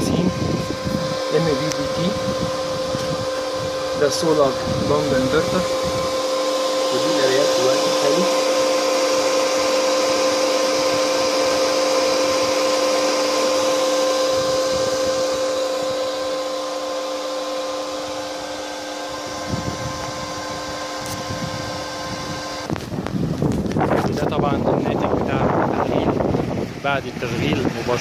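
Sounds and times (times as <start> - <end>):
cooling fan whining: 0.0 - 28.0.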